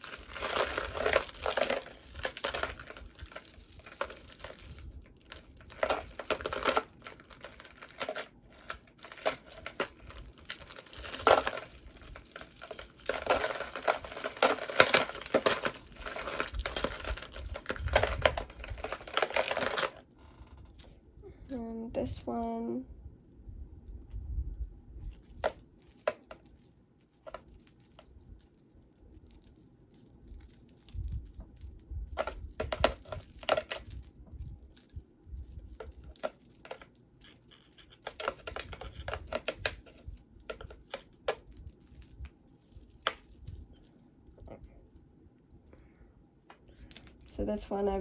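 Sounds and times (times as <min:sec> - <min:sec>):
jewelry clicking and rustling: 0:00.0 - 0:22.6, 0:23.2 - 0:48.0.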